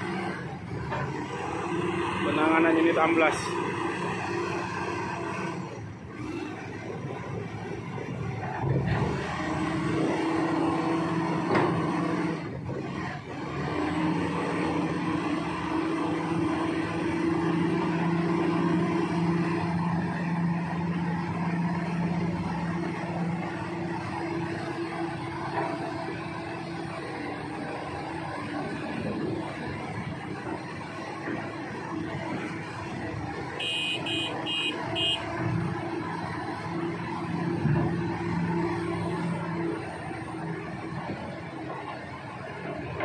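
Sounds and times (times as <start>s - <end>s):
bulldozer diesel engine running hard: 0.0s - 43.0s
excavator engine running: 0.0s - 43.0s.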